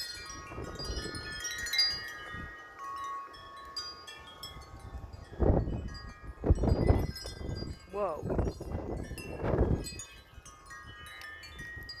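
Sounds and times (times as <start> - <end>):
wind buffeting microphone: 0.0 - 2.6, 4.4 - 12.0
wind chimes ringing: 0.0 - 12.0.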